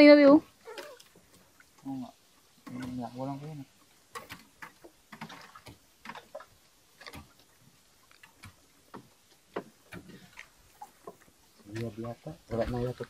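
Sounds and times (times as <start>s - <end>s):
faint irregular clicks and knocks: 0.7s - 13.0s.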